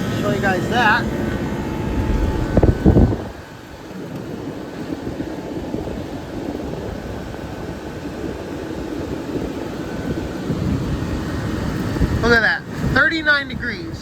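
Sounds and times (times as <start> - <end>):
window air conditioner running: 0.0 - 14.0.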